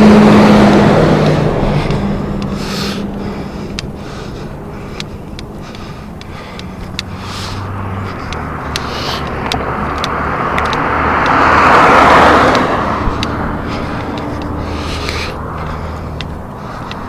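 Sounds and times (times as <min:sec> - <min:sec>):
car passing: 0:00.0 - 0:17.0.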